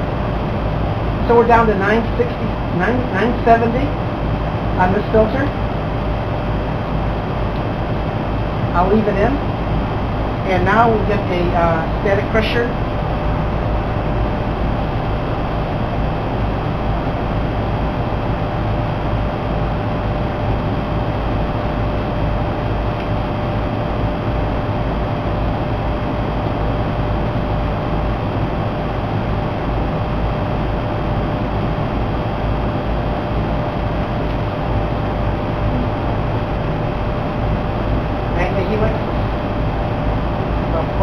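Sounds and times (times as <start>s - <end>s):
air handler blower running: 0.0s - 41.0s.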